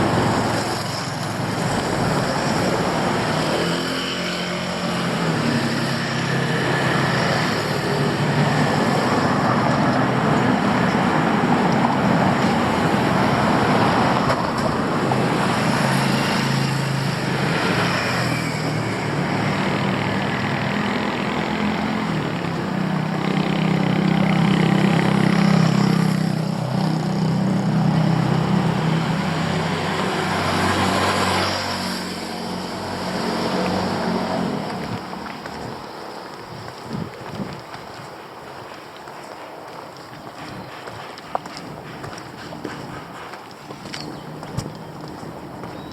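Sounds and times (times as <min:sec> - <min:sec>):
traffic hiss: 0:00.0 - 0:45.8
engines humming: 0:00.0 - 0:45.9.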